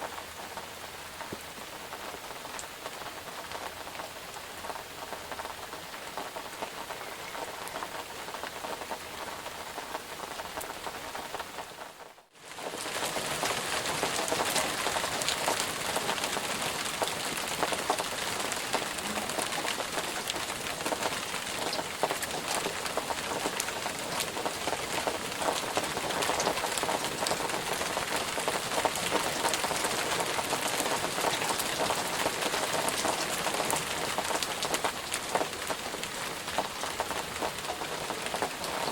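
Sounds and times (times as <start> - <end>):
rain drops pattering: 0.0 - 38.9.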